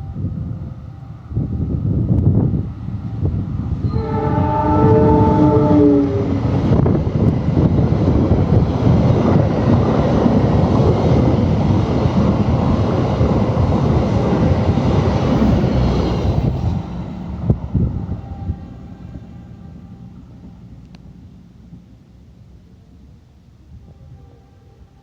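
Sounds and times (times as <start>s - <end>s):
train passing rumble: 0.0s - 25.0s.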